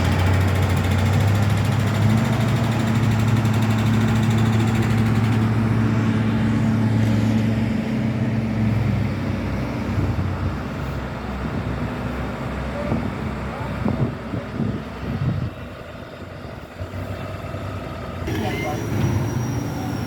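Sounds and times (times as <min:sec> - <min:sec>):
construction machine engine running: 0:00.0 - 0:20.0.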